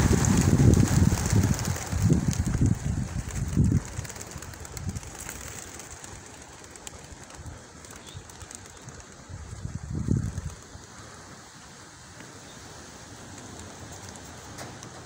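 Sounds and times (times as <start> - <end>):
whirr of pigeon wingbeats: 0.0 - 11.2, 13.1 - 15.0.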